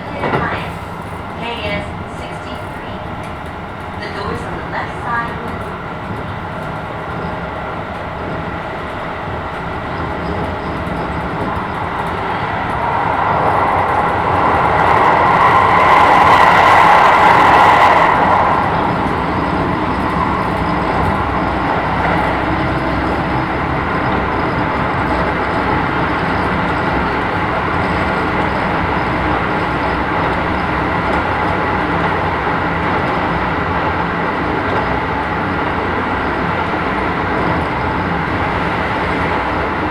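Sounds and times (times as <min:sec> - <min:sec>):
train wheel-on-rail rumble: 0:00.0 - 0:39.9.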